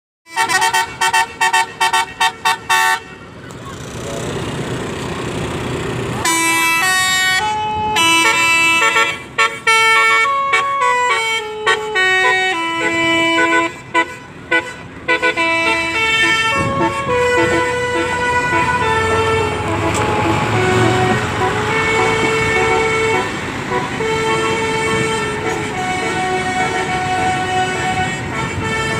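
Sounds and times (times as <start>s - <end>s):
engine and road noise: 0.2s - 28.9s
bus musical horn playing a tune: 0.3s - 3.2s, 6.2s - 28.9s.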